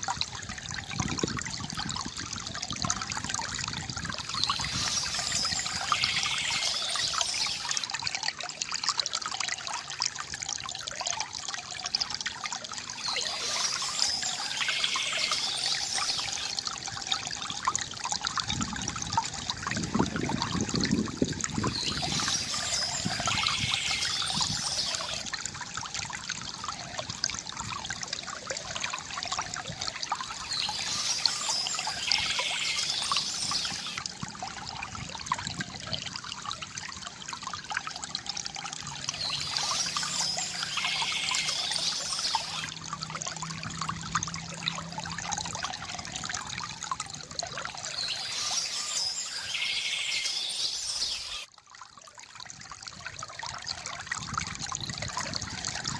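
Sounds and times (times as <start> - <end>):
water trickling from bamboo spout: 0.0 - 55.9.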